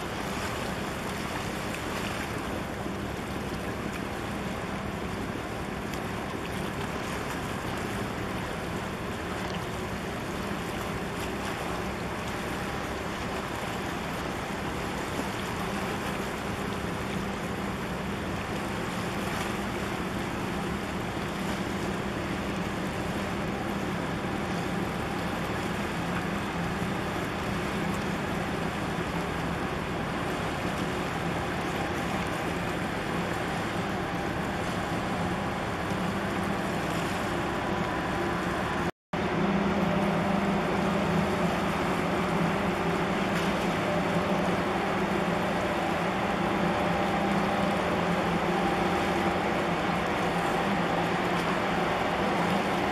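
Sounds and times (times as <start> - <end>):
ship engine drone: 0.0 - 52.9
water noise: 0.0 - 52.9
wind: 0.0 - 52.9.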